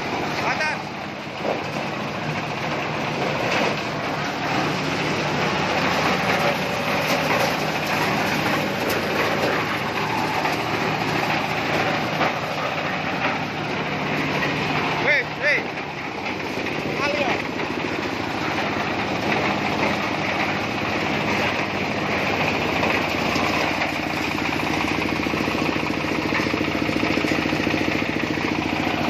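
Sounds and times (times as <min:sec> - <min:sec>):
corn sheller rattling: 0:00.1 - 0:29.0.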